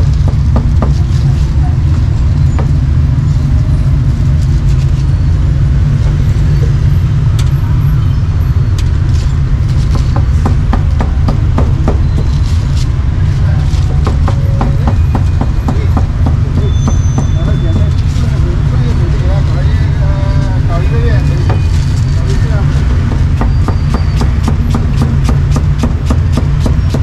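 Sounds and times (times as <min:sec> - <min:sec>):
low rumble of street traffic: 0:00.0 - 0:27.0.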